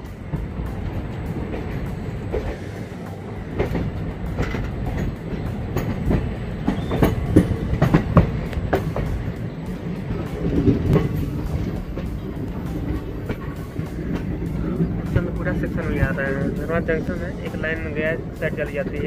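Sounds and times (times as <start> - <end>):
train rumble: 0.0 - 19.0
train wheels clattering: 0.0 - 19.0.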